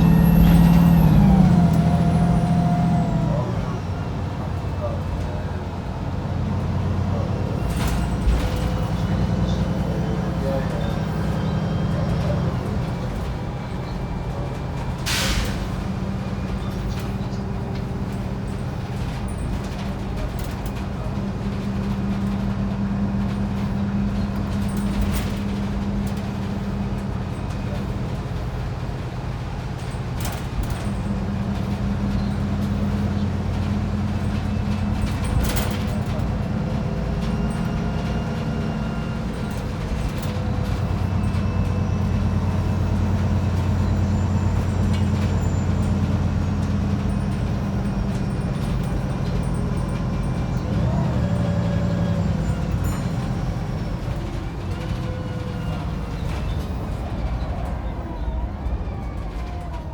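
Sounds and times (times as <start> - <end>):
bus engine under load: 0.0 - 59.9.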